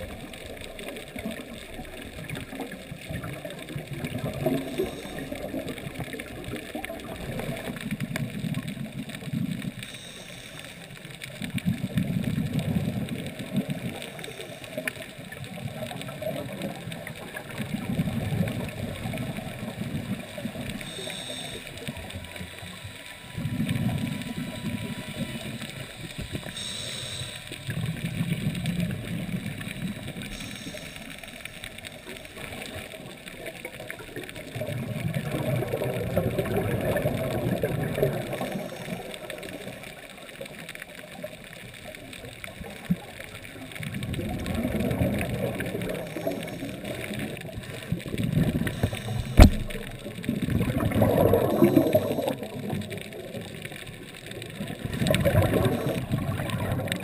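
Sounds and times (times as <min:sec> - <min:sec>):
underwater exhaled bubbles: 0:00.0 - 0:57.0.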